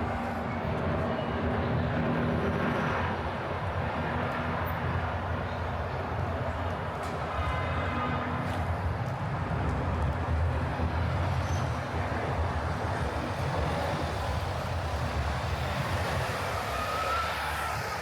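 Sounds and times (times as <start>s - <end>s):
passing train rumble: 0.0s - 18.0s
urban background hum: 0.0s - 18.0s.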